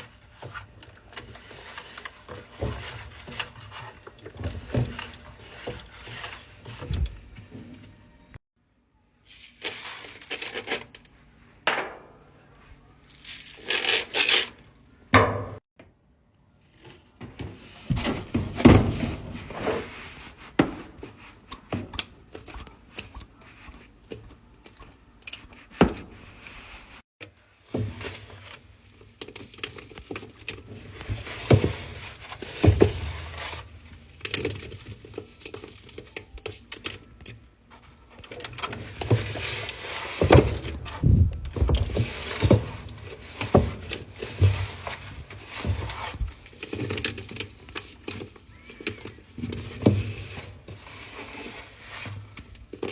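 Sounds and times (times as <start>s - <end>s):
clatter and crinkling of handling: 0.0s - 8.0s, 16.6s - 52.9s.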